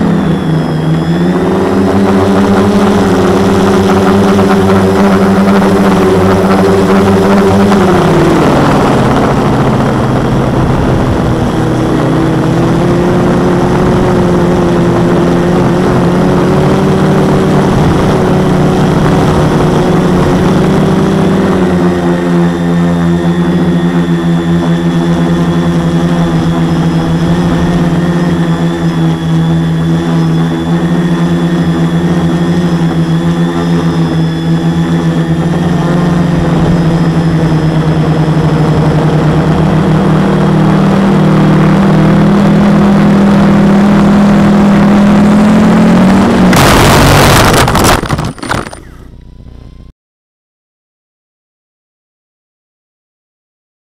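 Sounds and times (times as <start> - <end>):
quadcopter motors whining: 0.0 - 49.9.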